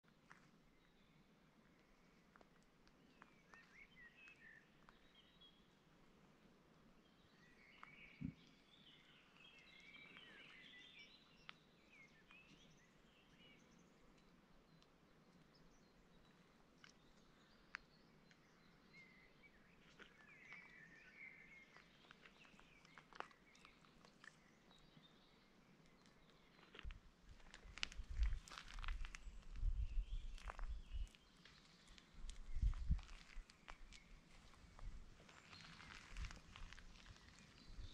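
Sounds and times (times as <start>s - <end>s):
low outdoor background noise: 0.0s - 37.9s.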